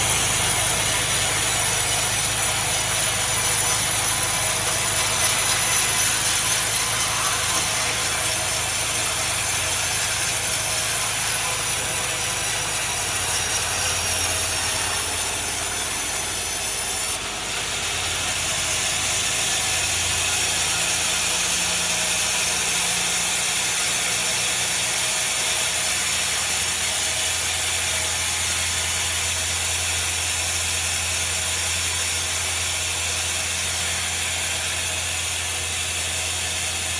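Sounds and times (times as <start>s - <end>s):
sawmill saw cutting log: 0.0s - 36.9s.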